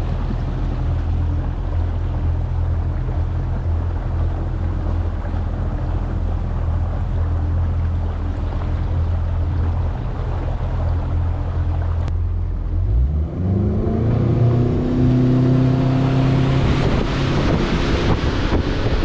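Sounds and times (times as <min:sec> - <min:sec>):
outboard motor droning: 0:00.0 - 0:19.0
water rushing along hull: 0:00.0 - 0:19.0.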